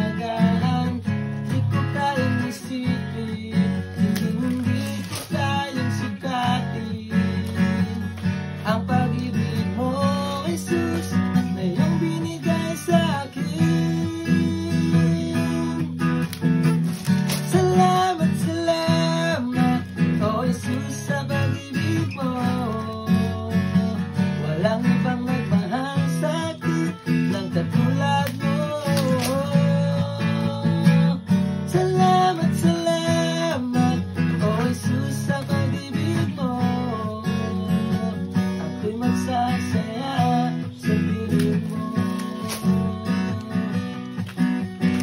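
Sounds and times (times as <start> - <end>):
acoustic guitar strummed and picked: 0.0 - 45.0.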